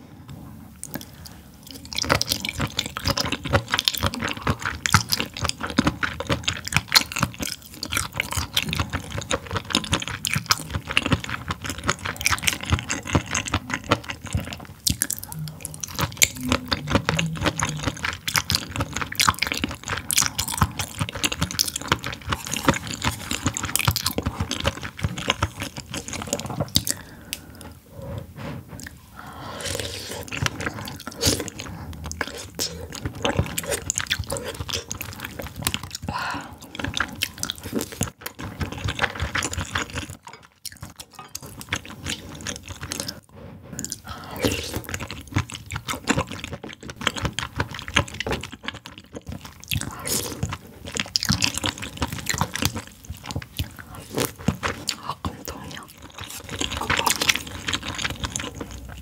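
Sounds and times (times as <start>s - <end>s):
wet chewing: 0.8s - 59.0s.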